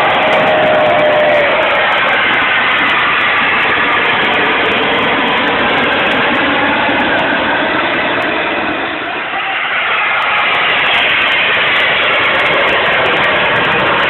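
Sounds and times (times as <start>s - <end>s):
jet engine running: 0.0s - 14.0s.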